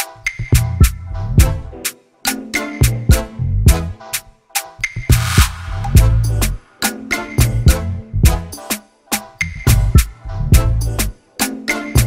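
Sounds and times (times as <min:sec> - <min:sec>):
upbeat music with drums and bass: 0:00.0 - 0:12.0.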